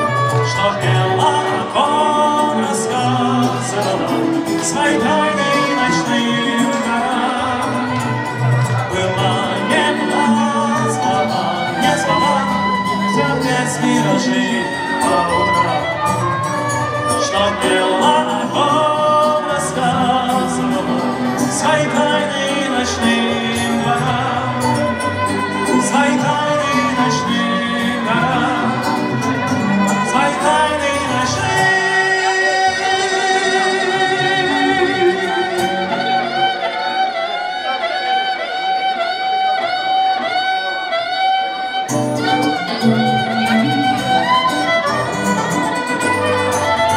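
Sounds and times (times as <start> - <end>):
guitar accompaniment: 0.0 - 46.9
person singing melody: 0.0 - 46.9.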